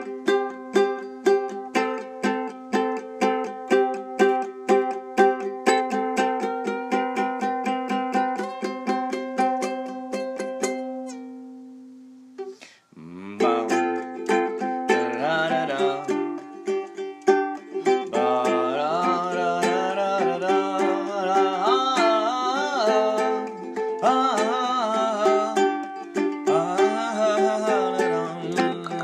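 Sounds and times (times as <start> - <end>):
ukulele strummed and picked: 0.0 - 29.0.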